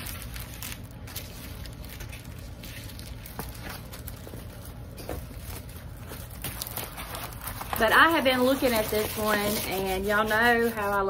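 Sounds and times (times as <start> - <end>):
plastic sleeve rustling: 0.0 - 11.0
steady low hum: 0.0 - 11.0.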